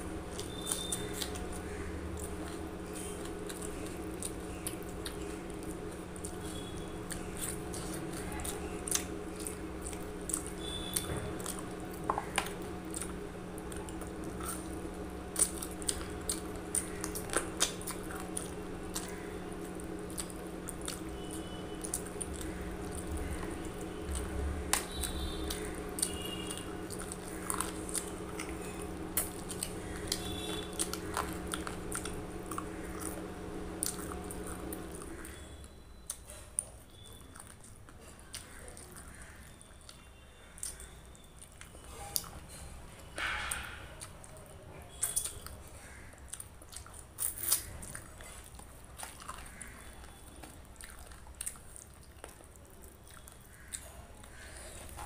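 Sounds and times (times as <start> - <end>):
person chewing food: 0.0 - 55.0
steady background hum: 0.0 - 55.0.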